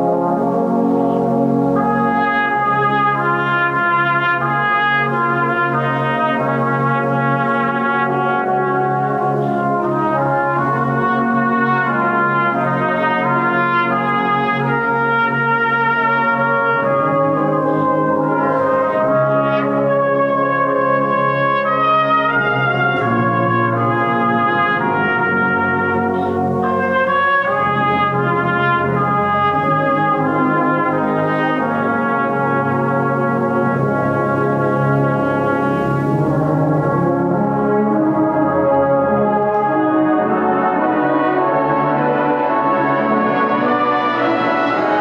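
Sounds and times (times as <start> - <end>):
brass band playing slow chords: 0.0 - 45.0.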